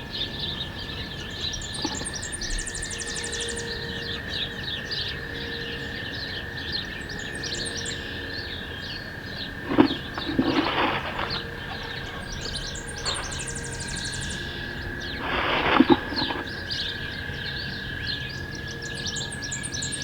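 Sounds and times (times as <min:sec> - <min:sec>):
songbirds chirping: 0:00.0 - 0:20.0
steady high tone: 0:00.0 - 0:20.0.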